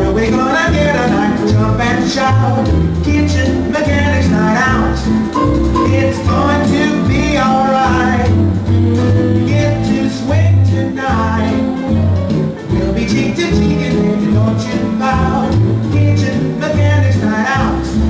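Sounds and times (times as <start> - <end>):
bass line: 0.0 - 18.0
person singing: 0.0 - 18.0.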